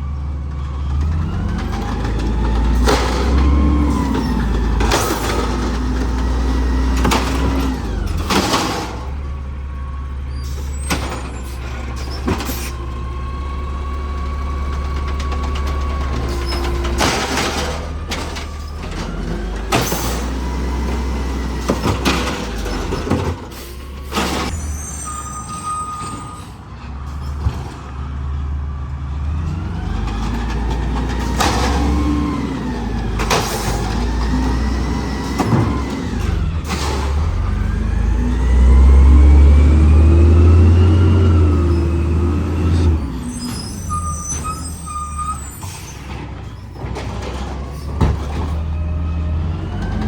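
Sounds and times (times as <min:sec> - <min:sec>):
garbage truck engine revving: 0:00.7 - 0:25.5, 0:27.0 - 0:50.0.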